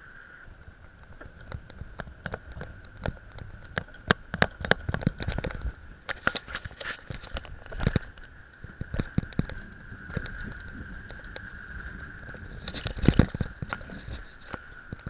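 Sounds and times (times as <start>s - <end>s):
bicycle rattling over paving: 0.5s - 15.0s.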